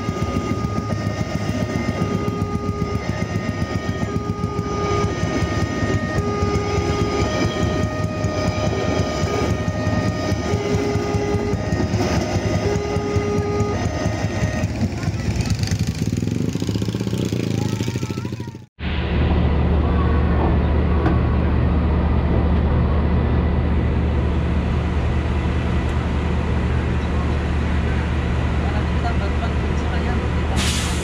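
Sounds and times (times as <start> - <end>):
passing train rumble: 0.0 - 31.0.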